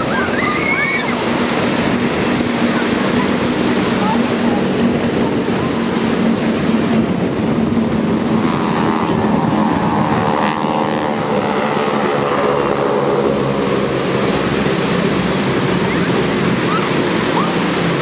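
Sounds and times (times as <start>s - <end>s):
propeller aircraft flying past: 0.0s - 18.0s
surf: 0.0s - 18.0s
wind: 0.0s - 18.0s.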